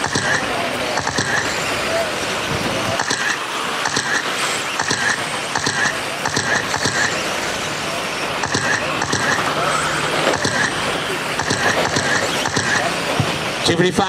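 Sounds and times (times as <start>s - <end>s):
scattered clicks: 0.0s - 1.8s, 2.5s - 7.4s, 8.3s - 13.2s
rc truck motors whirring: 0.0s - 13.6s.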